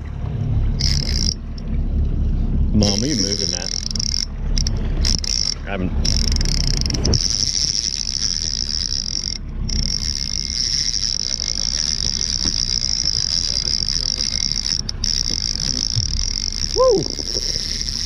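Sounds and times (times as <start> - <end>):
low steady rumble: 0.0 - 18.0
fishing reel buzzing whir: 0.7 - 1.7, 2.8 - 18.0.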